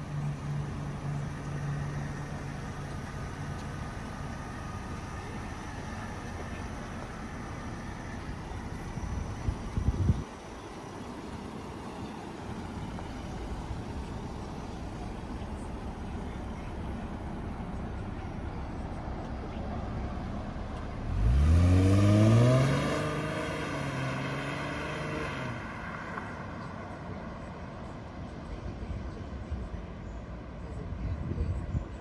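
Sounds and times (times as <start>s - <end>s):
car engine accelerating: 0.0s - 29.4s.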